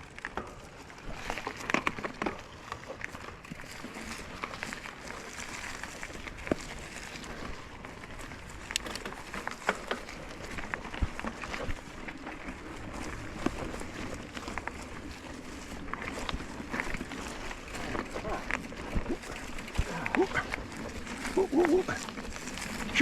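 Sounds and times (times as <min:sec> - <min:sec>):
bike rattling: 0:00.0 - 0:23.0
rocks clicking and knocking: 0:00.0 - 0:23.0
tyres crunching over stones: 0:00.0 - 0:23.0.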